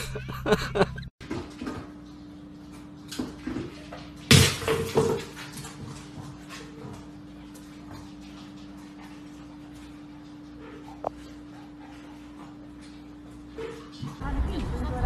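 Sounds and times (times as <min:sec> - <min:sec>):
dog eating from bowl: 0:01.2 - 0:14.3.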